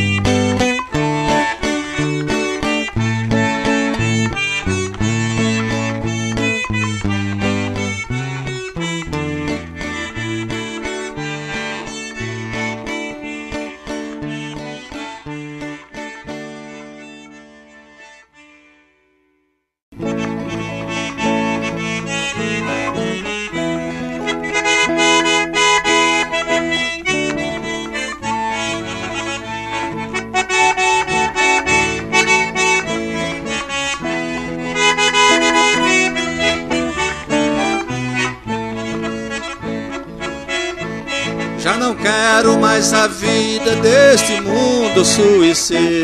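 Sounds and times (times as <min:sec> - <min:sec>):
piano accordion melody: 0:00.0 - 0:18.7, 0:20.0 - 0:46.0.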